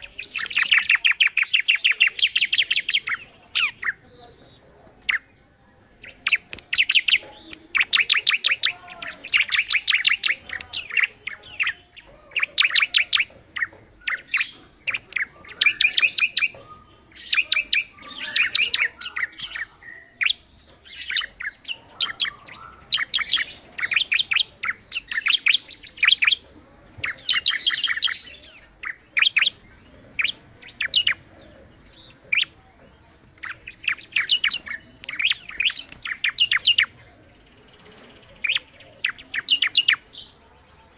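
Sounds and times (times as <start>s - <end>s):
songbird chirping: 0.0s - 40.9s.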